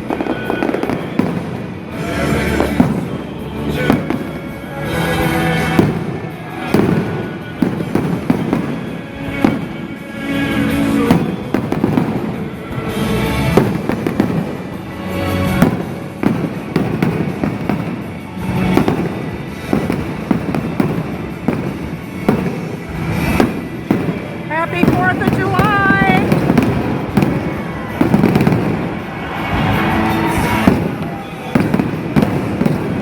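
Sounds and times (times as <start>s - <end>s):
firework shells bursting: 0.0s - 33.0s
loud music: 0.0s - 33.0s.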